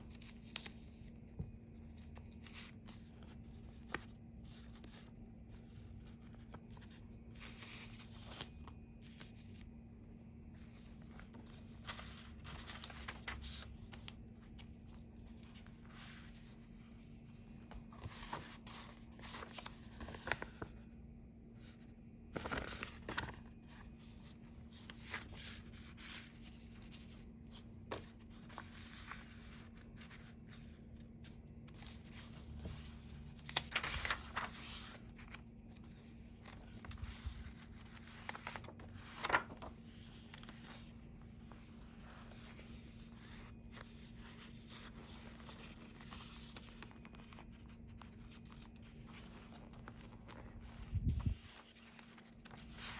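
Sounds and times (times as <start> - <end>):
paper pages rustling: 0.0 - 9.8, 10.4 - 20.9, 21.6 - 52.9.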